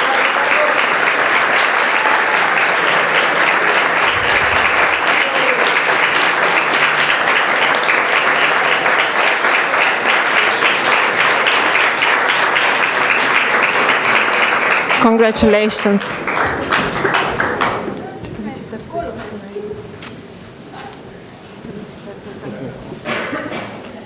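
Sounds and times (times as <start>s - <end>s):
audience applauding: 0.0s - 19.3s.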